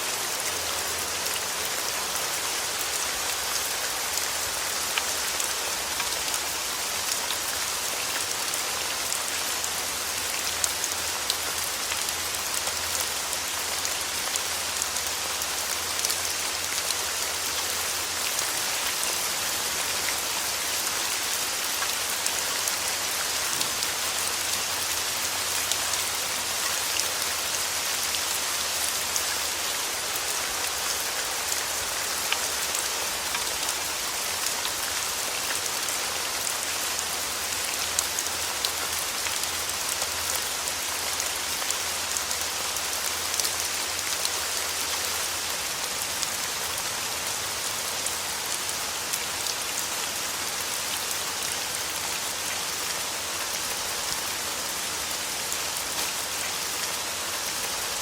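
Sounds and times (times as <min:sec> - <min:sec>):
steady rain hiss: 0:00.0 - 0:58.0
raindrops ticking on a surface: 0:00.1 - 0:49.9, 0:55.4 - 0:57.8.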